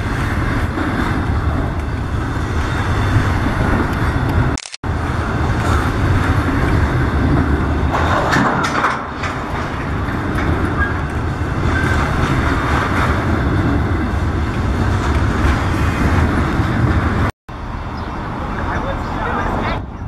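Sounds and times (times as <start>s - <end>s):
wheels clacking over rail joints: 0.0s - 17.3s
freight train rolling past: 0.0s - 20.0s.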